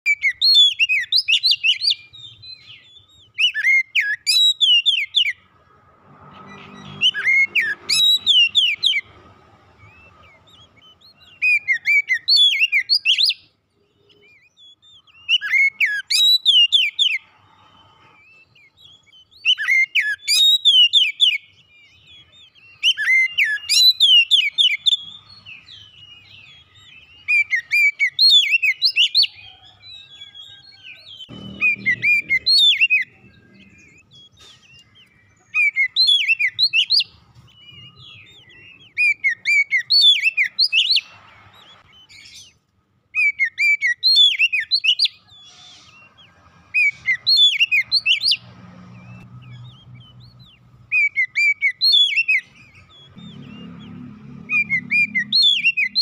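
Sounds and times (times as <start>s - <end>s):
bird singing sweeping whistles: 0.0s - 5.4s, 6.5s - 9.1s, 9.7s - 42.6s, 43.2s - 56.0s.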